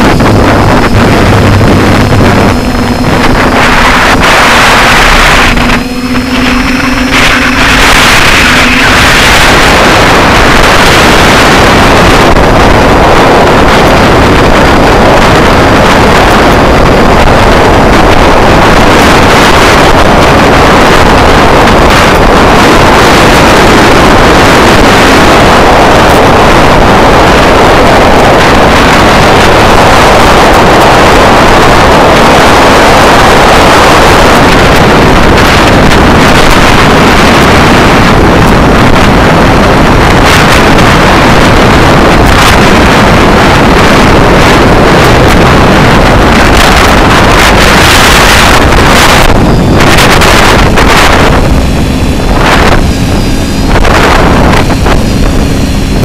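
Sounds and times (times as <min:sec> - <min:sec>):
drone motor running: 0:00.0 - 0:56.0
wind buffeting microphone: 0:00.0 - 0:56.0.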